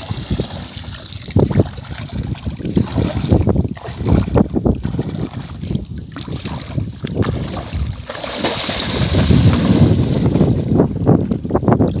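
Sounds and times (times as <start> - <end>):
legs wading through muddy water: 0.0 - 10.7
water splashing: 0.0 - 10.8.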